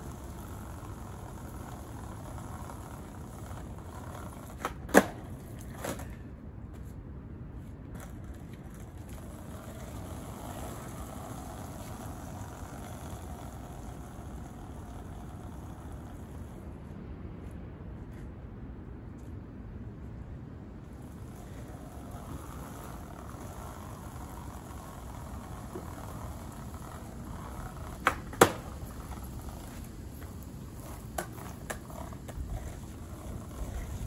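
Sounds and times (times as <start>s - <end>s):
skateboard clacking: 0.0s - 6.3s, 7.9s - 16.6s, 20.9s - 34.0s
skateboard wheels rumbling: 0.0s - 18.3s, 20.8s - 34.0s.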